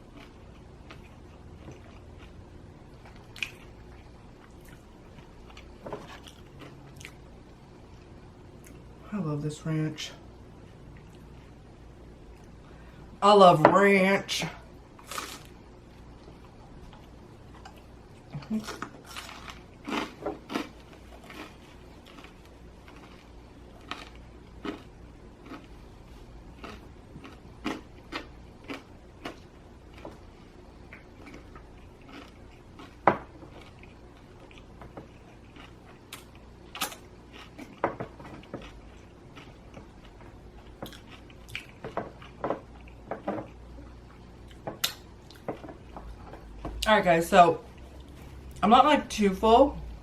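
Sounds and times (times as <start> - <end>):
chewing and crunching: 0.0 - 8.9, 10.6 - 11.7, 15.0 - 46.9.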